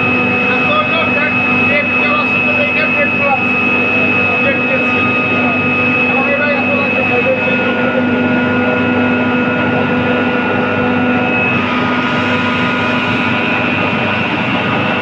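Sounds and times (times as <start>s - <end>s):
machinery drone with humming tones: 0.0s - 15.0s.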